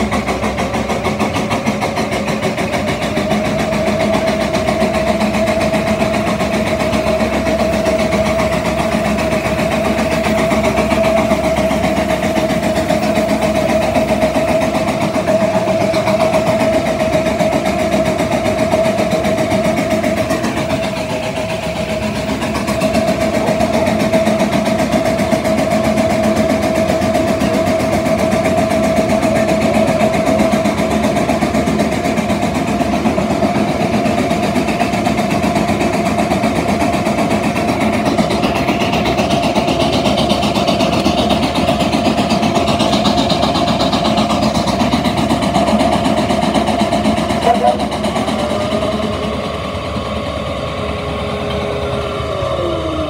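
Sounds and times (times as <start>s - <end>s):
steam traction engine running: 0.0s - 53.0s.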